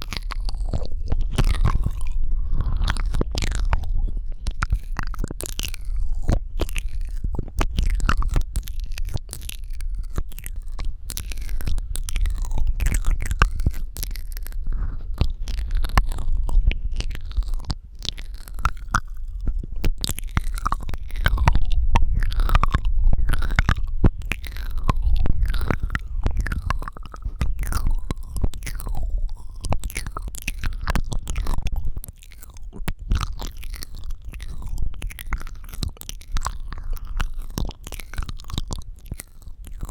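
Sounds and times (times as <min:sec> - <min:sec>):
steady low rumble: 0:00.0 - 0:39.9
wet mouth clicks and smacks: 0:00.0 - 0:39.9.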